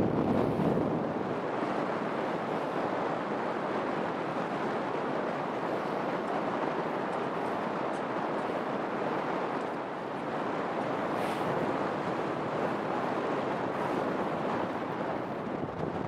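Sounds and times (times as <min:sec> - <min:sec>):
water rushing: 0:00.0 - 0:16.0
wind: 0:00.0 - 0:16.0.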